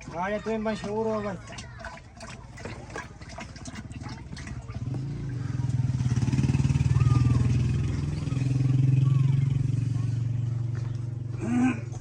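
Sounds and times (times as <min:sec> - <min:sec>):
diesel engine running: 0:01.8 - 0:12.0.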